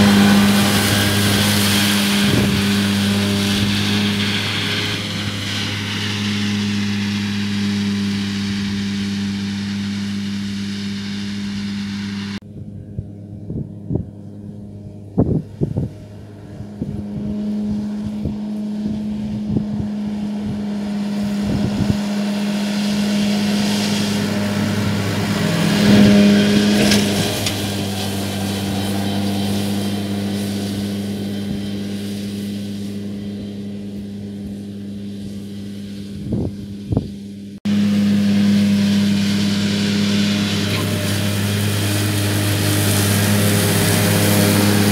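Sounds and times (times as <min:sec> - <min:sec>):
tractor engine and mower hum: 0:00.0 - 0:44.9.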